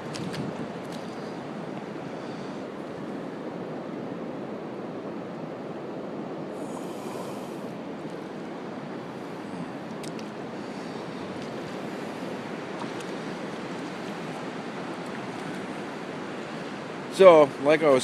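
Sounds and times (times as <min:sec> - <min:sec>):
ocean surf washing in: 0:00.0 - 0:18.0.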